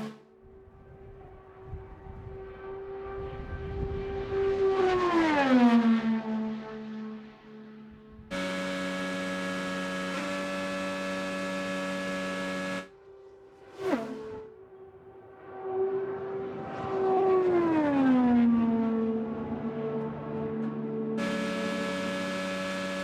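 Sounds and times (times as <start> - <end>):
race car engines at speed: 2.3 - 23.0.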